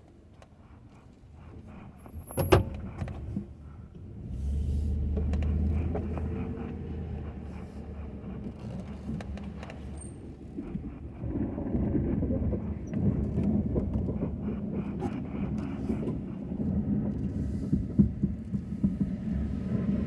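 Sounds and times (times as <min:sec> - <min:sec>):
pickup engine rumble: 0:00.1 - 0:20.0.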